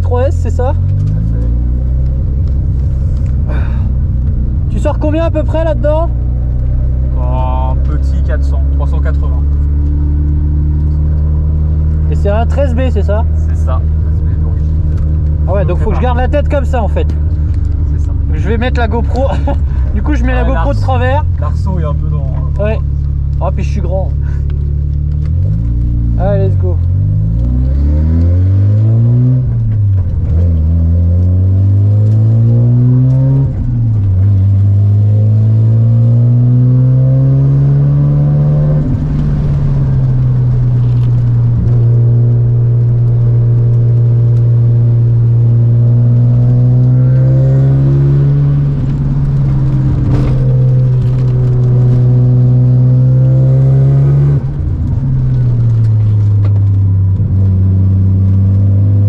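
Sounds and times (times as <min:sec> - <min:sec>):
rotary engine revving: 0:00.8 - 0:59.0.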